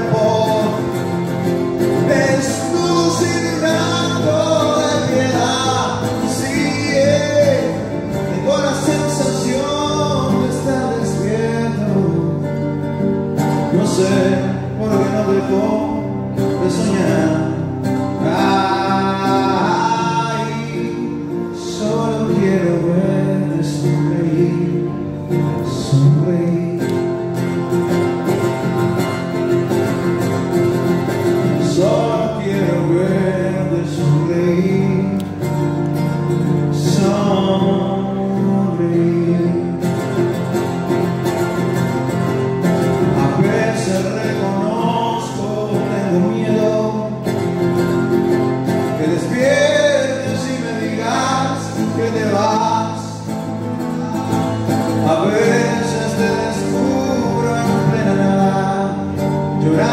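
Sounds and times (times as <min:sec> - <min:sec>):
man singing: 0:00.0 - 0:27.4, 0:31.3 - 0:35.6, 0:36.5 - 0:40.5, 0:42.8 - 0:59.9
band playing guitar: 0:00.0 - 0:59.9.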